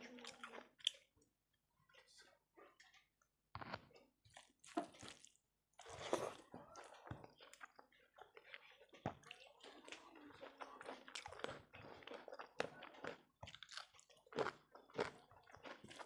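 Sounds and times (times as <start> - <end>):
wet chewing mouth sounds: 2.8 - 16.0.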